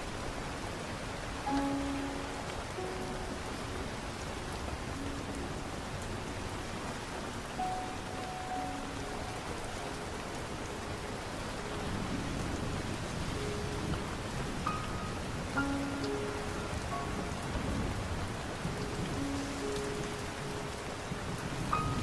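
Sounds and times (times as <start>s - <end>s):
soft slow melody: 0.0s - 22.0s
steady rain: 0.0s - 22.0s.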